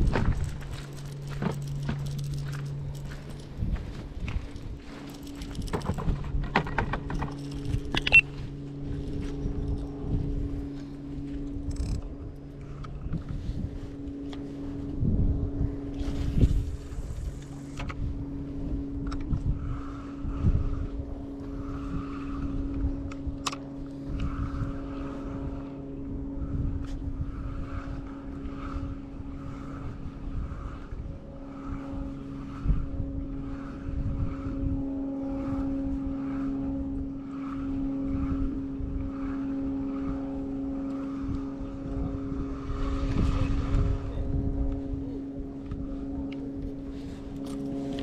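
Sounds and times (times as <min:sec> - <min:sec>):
wind rumble on microphone: 0:00.0 - 0:48.0.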